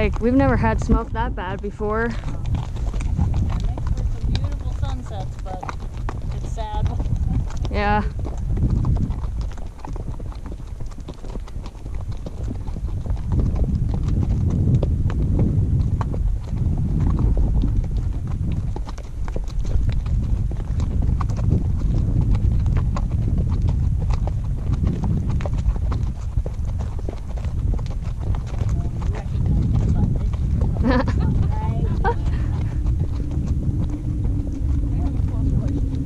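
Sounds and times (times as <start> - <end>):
hooves clip-clopping on dirt: 0.0 - 36.0
steady low rumble: 0.0 - 36.0.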